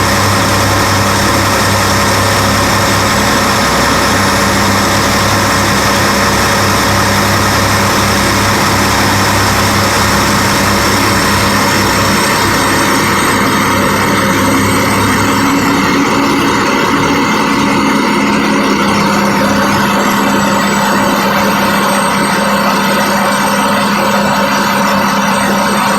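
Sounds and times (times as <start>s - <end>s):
heavy diesel engines running: 0.0s - 25.9s.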